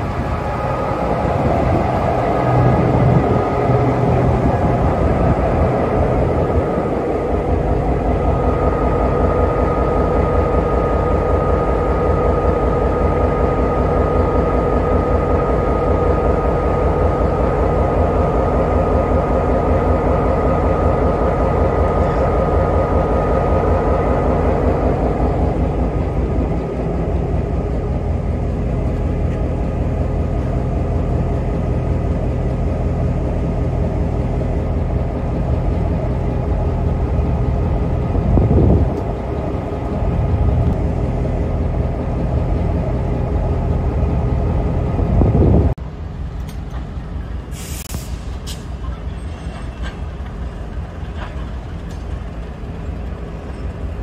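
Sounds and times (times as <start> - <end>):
high steady whine: 0.0 - 45.8
diesel locomotive engine idling: 0.0 - 54.0.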